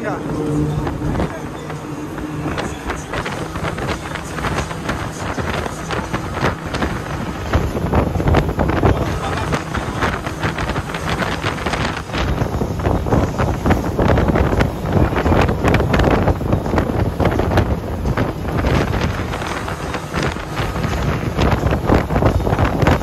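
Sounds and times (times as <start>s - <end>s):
boat running noise: 0.0s - 23.0s
wind buffeting microphone: 0.0s - 23.0s.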